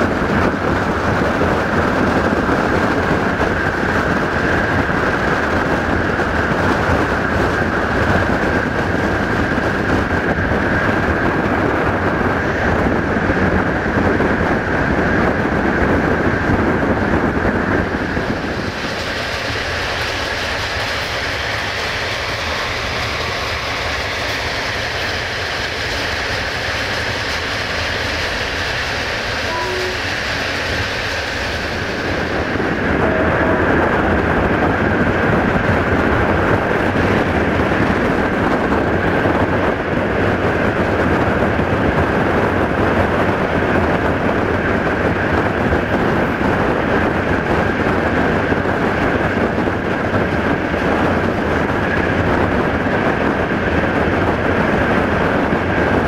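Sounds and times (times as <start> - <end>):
rail joints clickety-clack: 0.0 - 56.0
train wheels rolling on rails: 0.0 - 56.0.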